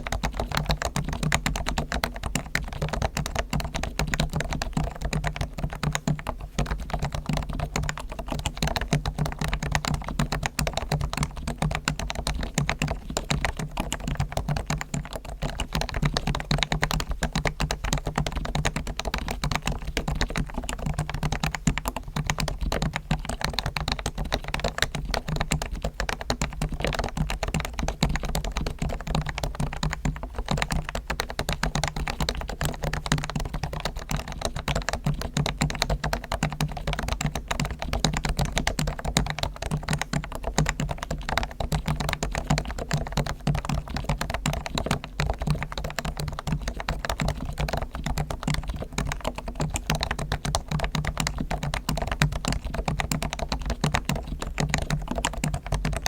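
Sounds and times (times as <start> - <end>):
soft keyboard typing: 0.0 - 56.0.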